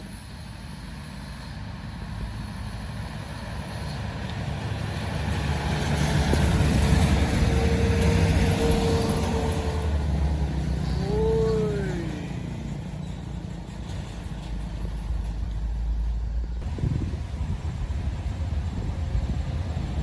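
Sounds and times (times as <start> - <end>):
truck engine rumble: 0.6 - 20.0.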